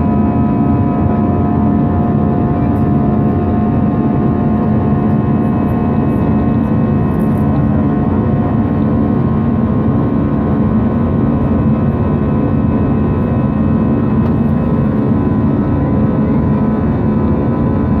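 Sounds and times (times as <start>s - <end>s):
airplane cabin jet noise: 0.0s - 18.0s.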